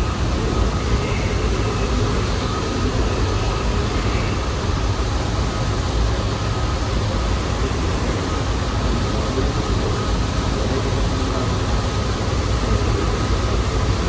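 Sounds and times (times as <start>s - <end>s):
air-conditioning-like hum: 0.0s - 14.0s
faint steady whine: 0.0s - 14.0s
subway train rumble: 0.0s - 14.0s.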